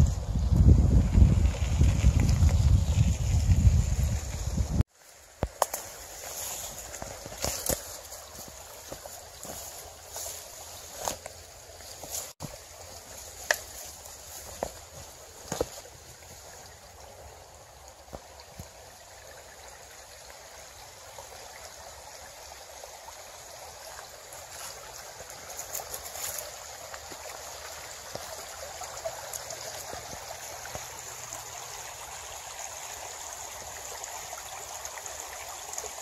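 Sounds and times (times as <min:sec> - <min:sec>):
creek trickling over stones: 0:00.0 - 0:36.0.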